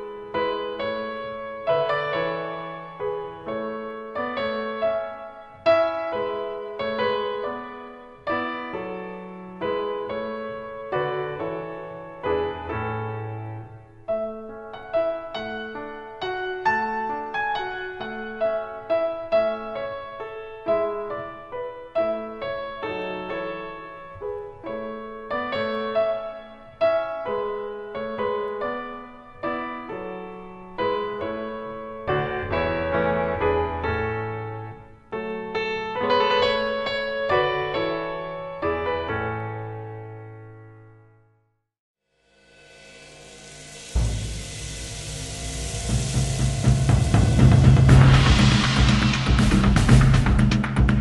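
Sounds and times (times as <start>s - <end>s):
slow piano chords: 0.0s - 41.3s, 42.6s - 51.0s.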